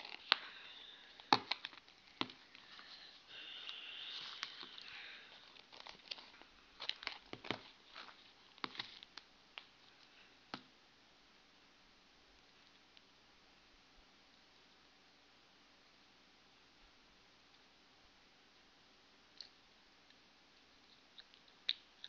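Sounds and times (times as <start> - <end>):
soft hiss: 0.0 - 22.0.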